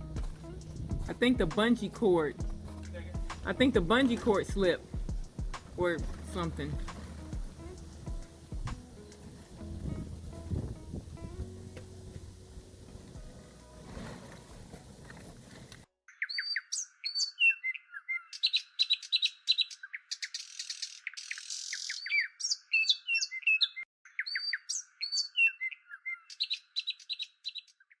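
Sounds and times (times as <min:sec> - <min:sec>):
songbirds chirping and whistling: 0:00.0 - 0:12.7, 0:16.1 - 0:28.0.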